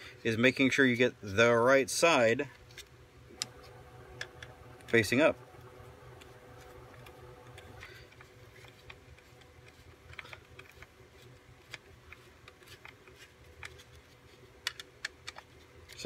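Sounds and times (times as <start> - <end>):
low steady hum: 2.4 - 16.0.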